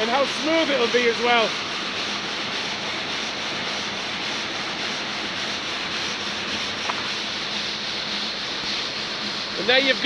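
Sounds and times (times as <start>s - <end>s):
low belt drive hum: 0.0s - 10.0s
running water: 0.0s - 10.0s
stone saw grinding: 0.0s - 10.0s.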